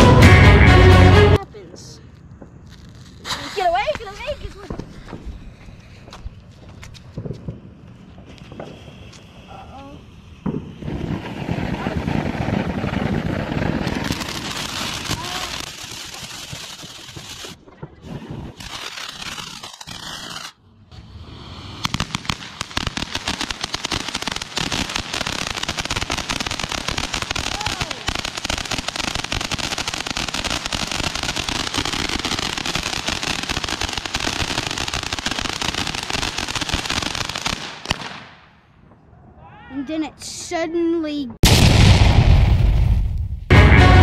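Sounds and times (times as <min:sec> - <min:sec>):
fountain firework crackling: 0:02.7 - 0:38.3.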